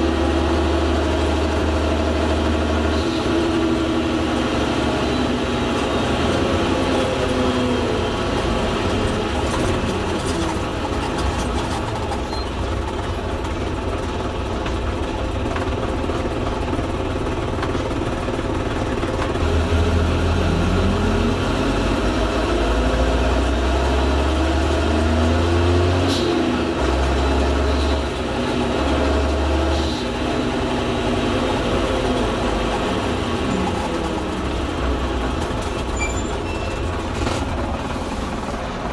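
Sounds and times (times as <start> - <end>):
bus engine pulling away: 0.0 - 38.9.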